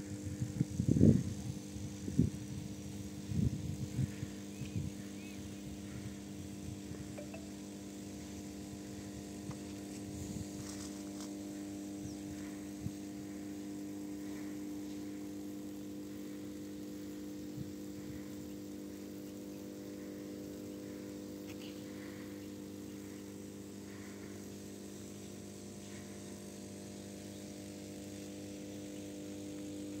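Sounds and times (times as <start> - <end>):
transformer electrical hum: 0.0 - 30.0.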